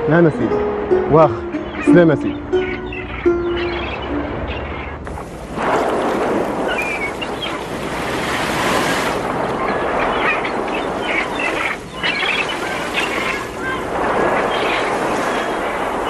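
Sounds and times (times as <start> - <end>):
waves rushing: 0.0 - 16.0
wind: 0.0 - 16.0.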